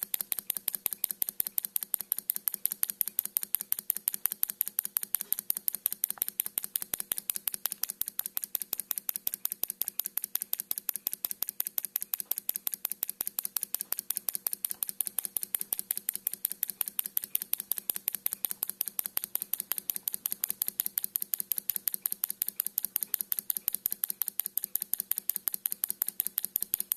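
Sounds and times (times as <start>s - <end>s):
solenoid engine clicking: 0.0s - 26.9s.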